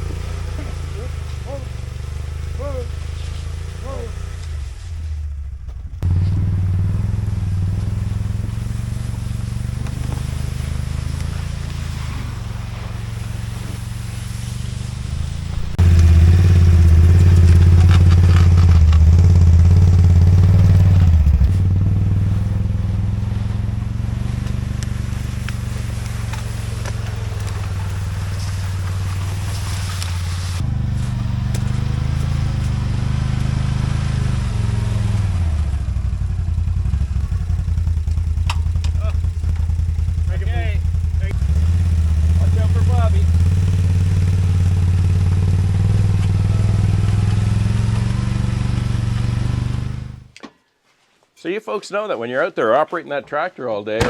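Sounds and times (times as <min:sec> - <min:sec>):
engine running with low hum: 0:00.0 - 0:50.4.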